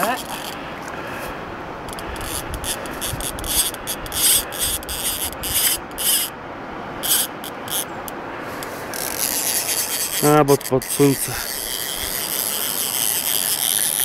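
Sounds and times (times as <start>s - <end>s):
fishing reel click drag ratcheting: 0.0s - 0.6s, 1.9s - 6.3s, 7.0s - 14.0s.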